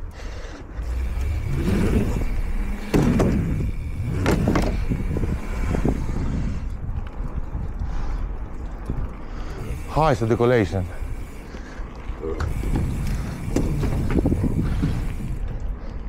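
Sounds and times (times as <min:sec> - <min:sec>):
bike tyres rumbling on concrete: 0:00.0 - 0:16.0.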